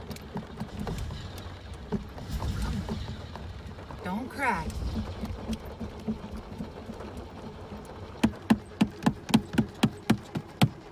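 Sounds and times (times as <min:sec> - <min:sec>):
car engine cranking: 0:00.0 - 0:10.9.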